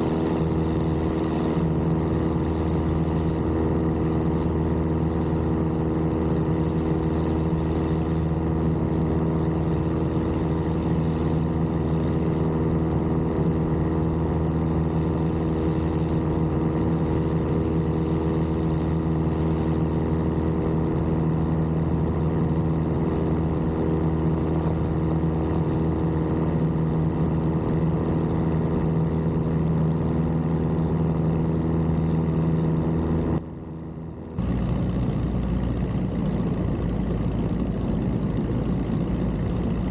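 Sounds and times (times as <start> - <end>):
propeller plane engine in flight: 0.0 - 39.9.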